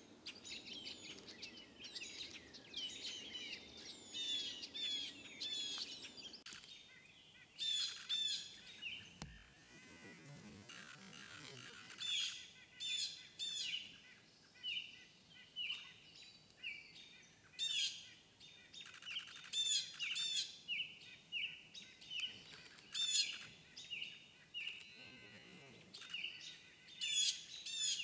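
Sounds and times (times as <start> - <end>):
birds calling: 0.0 - 14.8, 18.6 - 28.0.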